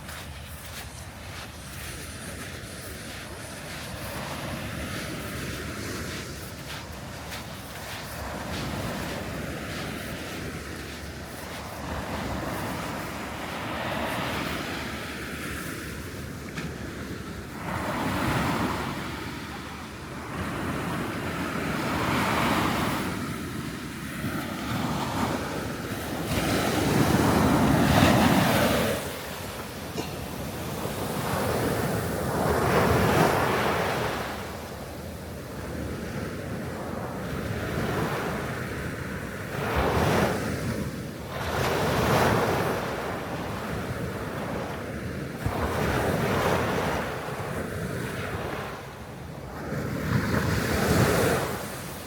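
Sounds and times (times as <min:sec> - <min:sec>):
waves breaking on a beach: 0:00.0 - 0:52.0
wind buffeting microphone: 0:00.0 - 0:52.0.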